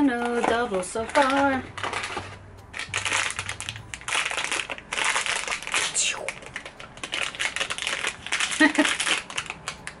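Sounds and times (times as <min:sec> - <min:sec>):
crinkly packaging tearing and rustling: 0:00.0 - 0:10.0.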